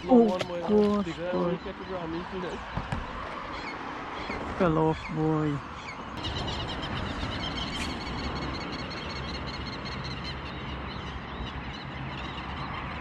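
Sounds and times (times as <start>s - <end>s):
highway traffic rushing: 0.0s - 13.0s
small birds chirping: 0.0s - 13.0s.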